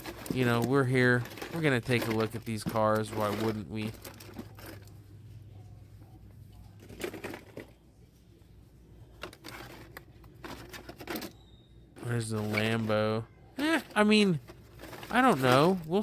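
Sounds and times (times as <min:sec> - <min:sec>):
plastic packs rustling and clacking: 0:00.0 - 0:05.0, 0:06.8 - 0:07.8, 0:09.1 - 0:16.0
faint low hum: 0:00.0 - 0:16.0.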